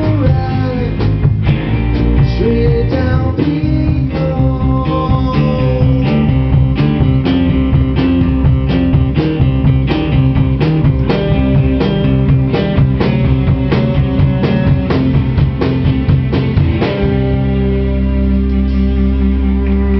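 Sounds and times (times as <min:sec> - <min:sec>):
drum kit beat: 0:00.0 - 0:18.6
rock band playing: 0:00.0 - 0:19.9.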